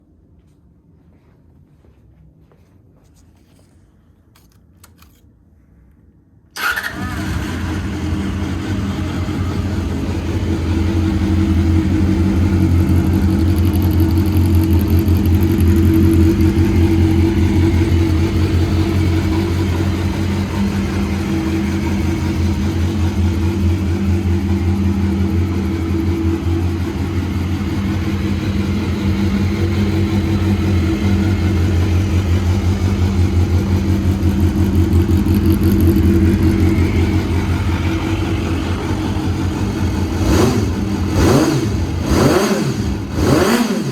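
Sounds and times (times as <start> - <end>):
motorcycle engine idling: 6.6 - 43.9
motorcycle engine starting: 6.6 - 43.9.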